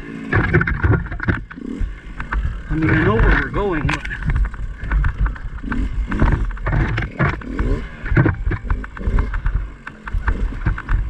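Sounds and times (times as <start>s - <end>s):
bike knocks and rattles: 0.0s - 11.0s
two-stroke dirt bike engine: 0.0s - 11.0s.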